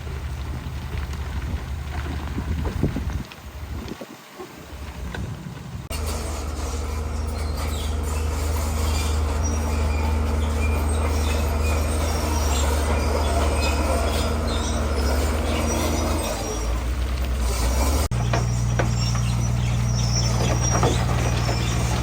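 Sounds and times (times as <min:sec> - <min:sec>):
diesel engine running: 0:00.0 - 0:22.0
crawler tracks squealing and clanking: 0:03.9 - 0:22.0.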